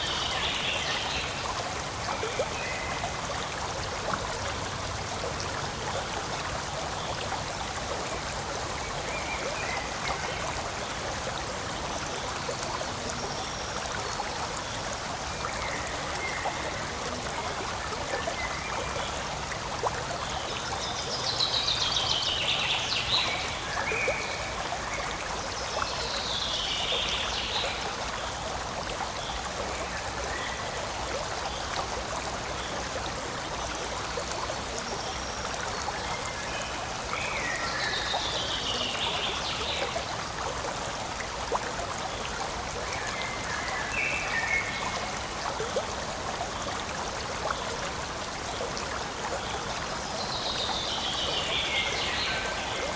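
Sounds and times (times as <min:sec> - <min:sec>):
stream babbling over rocks: 0:00.0 - 0:52.9.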